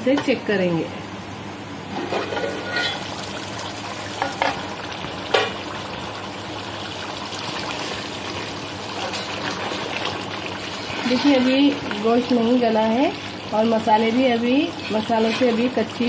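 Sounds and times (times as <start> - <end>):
food sizzling and bubbling in a pot: 1.9 - 16.0.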